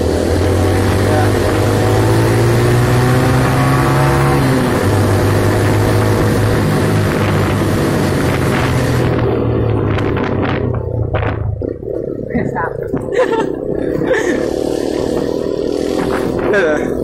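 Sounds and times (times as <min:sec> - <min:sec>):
wind rushing over microphone: 0:00.0 - 0:13.4, 0:14.3 - 0:17.0
motorcycle engine running: 0:00.0 - 0:17.0.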